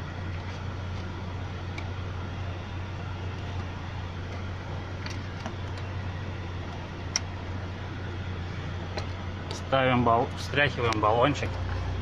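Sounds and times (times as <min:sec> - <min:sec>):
air conditioning fan blowing: 0:00.0 - 0:12.0
car engine idling: 0:00.0 - 0:12.0.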